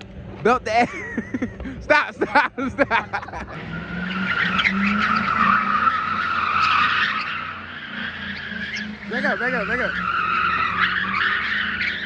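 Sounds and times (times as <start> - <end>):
car engine running hard: 0.0 - 12.0
tire screech: 1.4 - 12.0.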